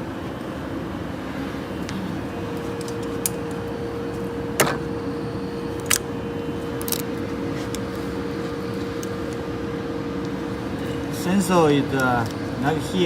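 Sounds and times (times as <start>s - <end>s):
tape applying machine humming: 0.0s - 13.0s.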